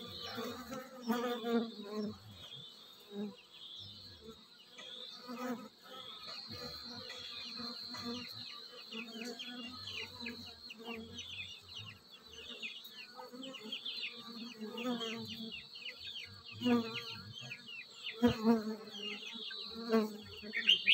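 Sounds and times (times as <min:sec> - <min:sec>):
honeybees buzzing: 0:00.0 - 0:20.9.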